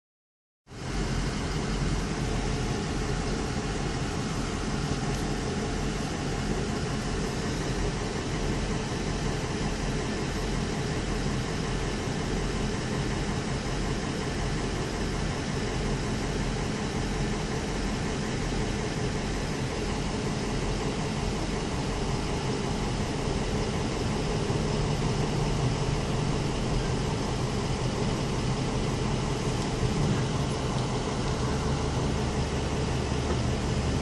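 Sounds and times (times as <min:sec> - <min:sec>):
engine running steadily: 0:00.7 - 0:34.0.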